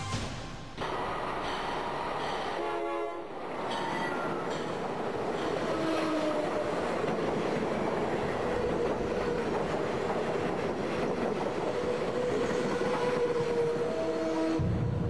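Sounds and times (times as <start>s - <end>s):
train wheels rumbling on rails: 0.8s - 15.0s.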